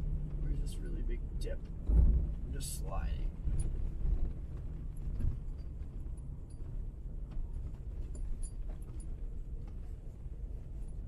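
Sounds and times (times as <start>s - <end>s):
low rumble inside truck cab: 0.0s - 11.0s.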